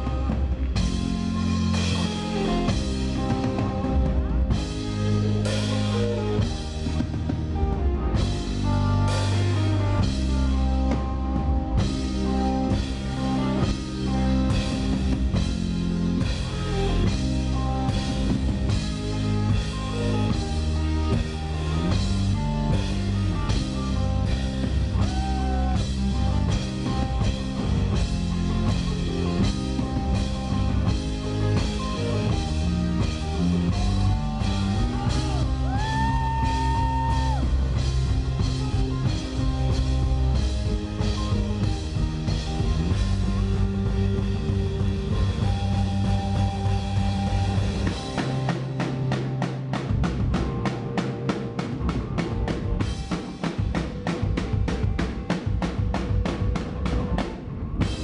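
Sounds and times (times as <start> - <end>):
drum kit beat: 0.0 - 58.0
live rock band playing: 0.0 - 58.0.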